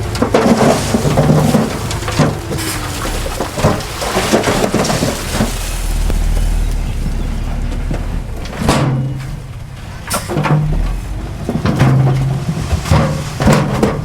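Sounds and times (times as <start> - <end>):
diesel machinery rumble: 0.0 - 14.0
dirt and stones crunching: 0.0 - 14.0.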